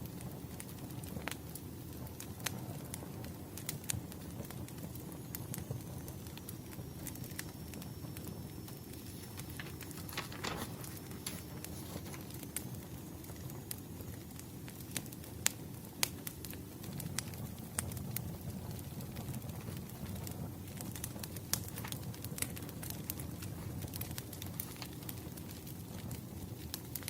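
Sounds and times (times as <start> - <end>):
wood fire crackling: 0.0 - 27.0
fire pops: 0.2 - 27.0.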